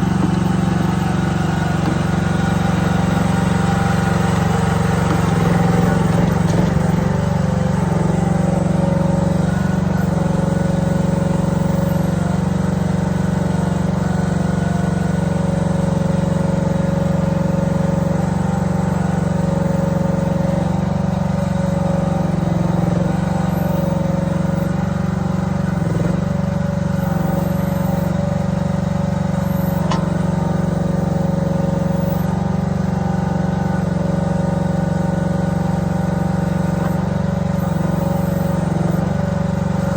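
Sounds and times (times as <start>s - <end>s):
small excavator engine running: 0.0s - 39.9s.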